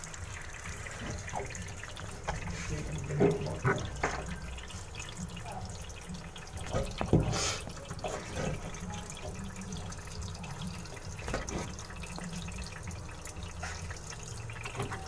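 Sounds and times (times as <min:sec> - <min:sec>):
water draining from washing machine: 0:00.0 - 0:15.0
water dripping: 0:00.0 - 0:15.0.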